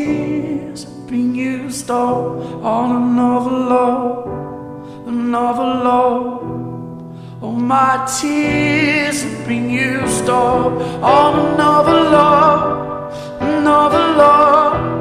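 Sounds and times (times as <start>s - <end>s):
song with singing voice: 0.0s - 15.0s.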